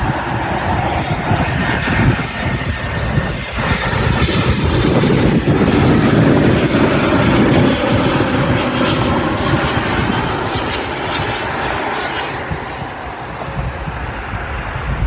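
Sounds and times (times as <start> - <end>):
jet engines passing: 0.0 - 15.0.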